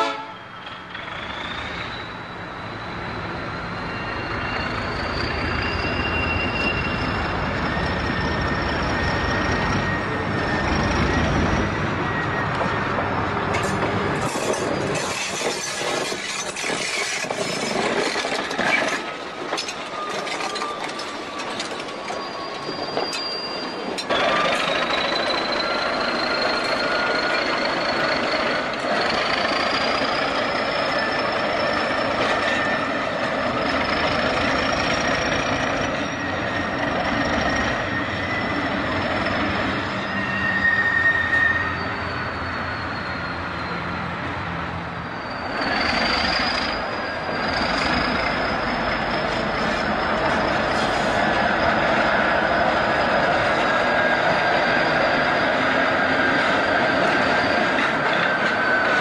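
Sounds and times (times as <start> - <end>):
diesel locomotive passing: 0.0 - 59.0
wheel squeals: 0.4 - 59.0.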